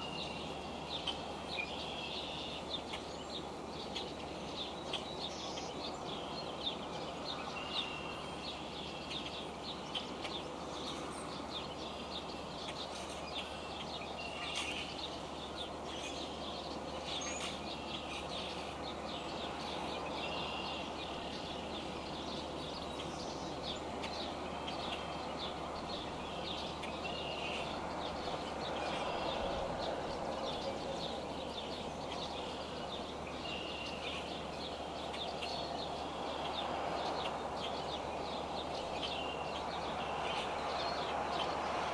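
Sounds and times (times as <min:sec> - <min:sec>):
bird chirping: 0:00.0 - 0:41.8.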